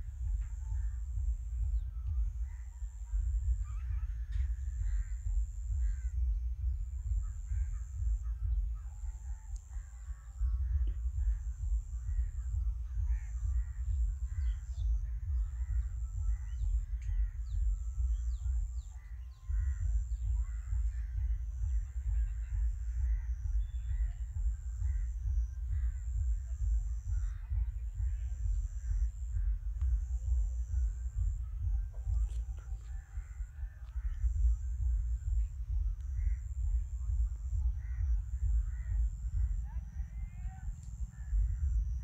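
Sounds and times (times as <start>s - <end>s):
birds calling: 0.0s - 42.0s
high thin pulsing whine: 0.0s - 42.0s
wind rumble on microphone: 0.0s - 42.0s.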